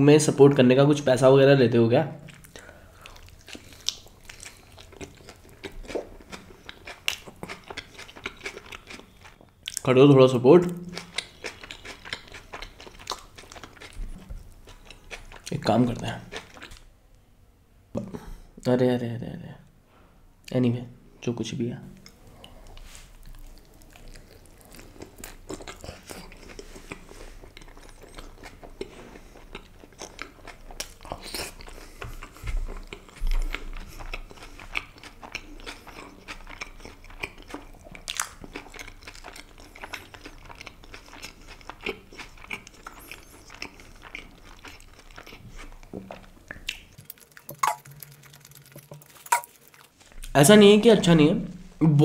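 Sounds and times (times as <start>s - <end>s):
wet chewing mouth sounds: 2.2s - 9.8s, 10.7s - 16.8s, 22.0s - 50.4s.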